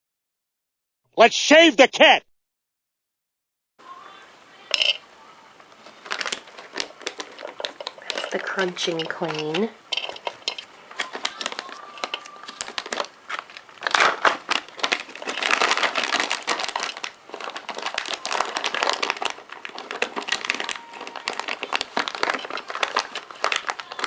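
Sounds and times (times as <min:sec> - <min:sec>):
plastic bag crinkling: 0:04.1 - 0:24.0.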